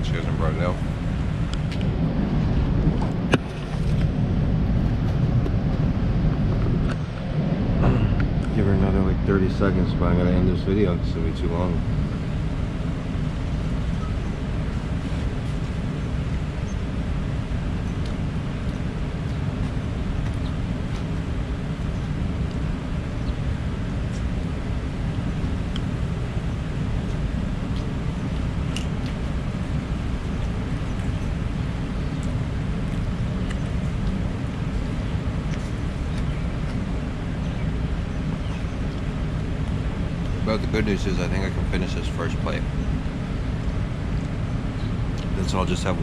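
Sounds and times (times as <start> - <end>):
outdoor background rumble: 0.0 - 46.0.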